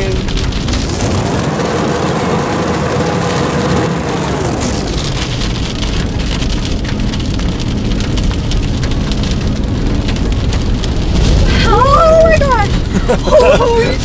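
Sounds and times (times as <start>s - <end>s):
constant crackle: 0.0s - 14.0s
road and wind noise in car: 0.0s - 14.0s.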